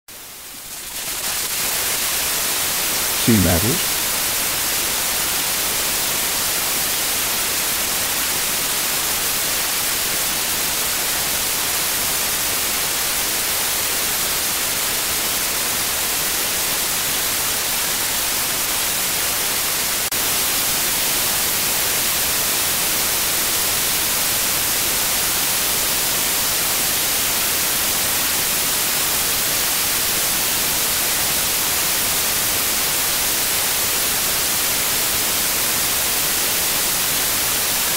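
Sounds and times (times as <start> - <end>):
loud static hiss: 0.2 - 37.9.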